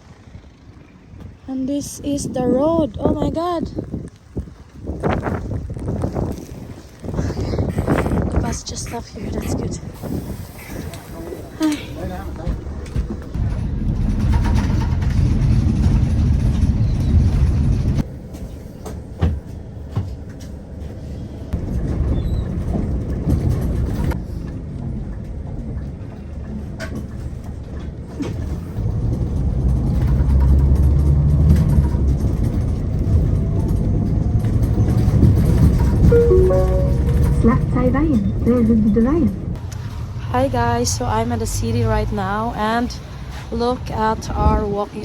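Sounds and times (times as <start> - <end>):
bus engine and road rumble: 0.0 - 45.0.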